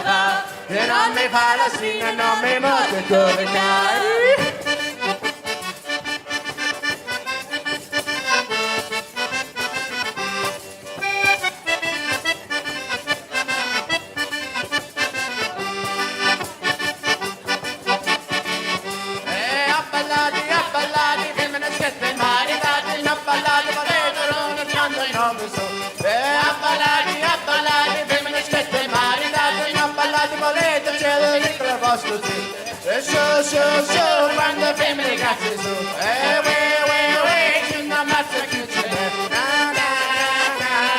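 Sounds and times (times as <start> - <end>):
accordion folk tune: 0.0 - 40.9.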